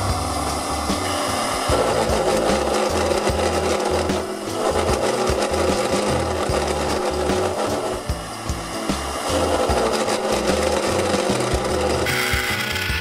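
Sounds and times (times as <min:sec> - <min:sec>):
background music with bass: 0:00.0 - 0:13.0
tool scraping wood: 0:01.7 - 0:08.2, 0:08.8 - 0:13.0.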